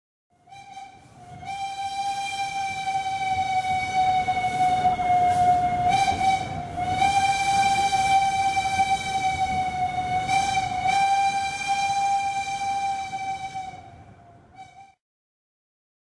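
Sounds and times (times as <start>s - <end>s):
moving train rumble: 0.3s - 15.0s
train horn blast: 0.4s - 15.0s.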